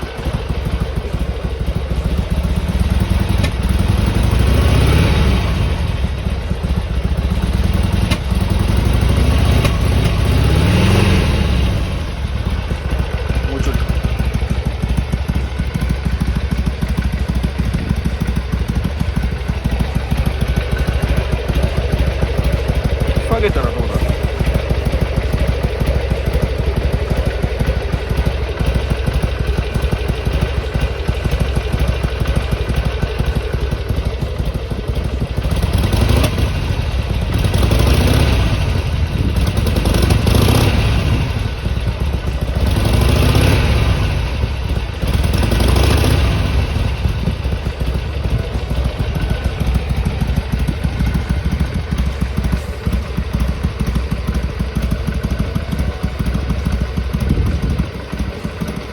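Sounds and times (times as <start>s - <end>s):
motorcycle engine idling and revving: 0.0s - 58.9s.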